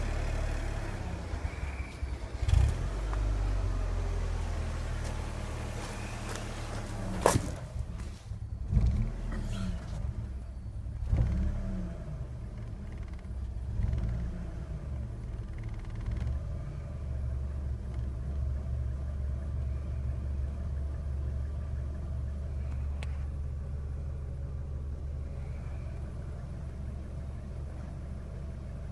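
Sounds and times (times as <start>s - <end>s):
car engine revving and idling roughly: 0.0s - 28.9s.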